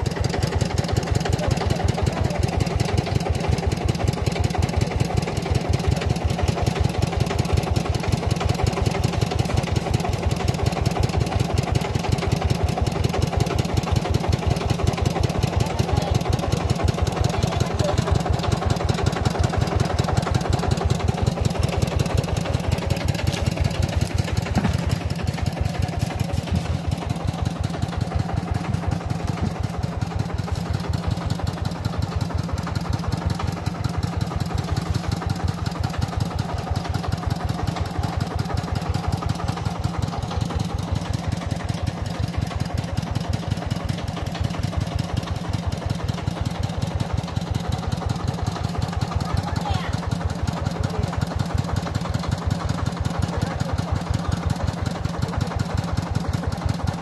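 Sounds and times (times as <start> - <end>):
engine chugging: 0.0 - 57.0.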